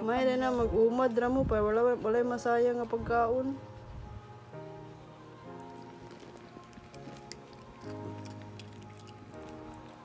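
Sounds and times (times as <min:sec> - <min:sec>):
soft background music chords: 0:00.0 - 0:10.0.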